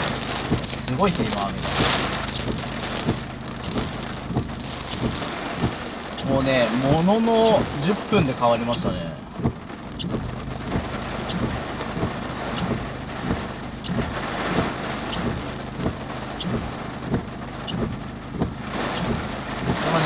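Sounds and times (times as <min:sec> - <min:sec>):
low repeating thump: 0:00.0 - 0:07.9, 0:08.7 - 0:20.0
heavy rain drumming on car: 0:00.0 - 0:20.0.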